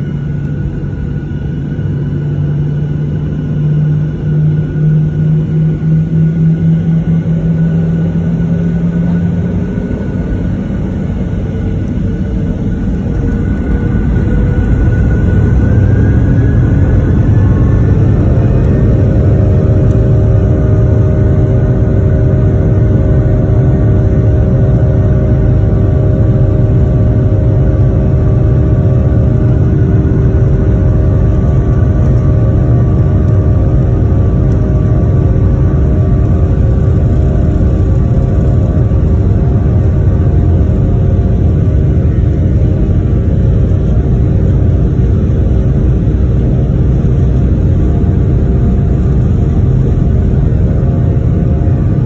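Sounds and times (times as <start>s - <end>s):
airplane cabin rumble and engine hum: 0.0s - 52.0s.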